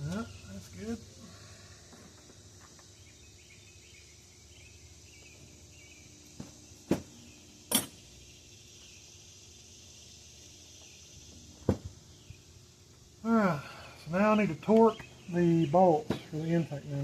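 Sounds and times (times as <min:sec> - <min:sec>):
faint high hiss of insects: 0:00.0 - 0:17.0.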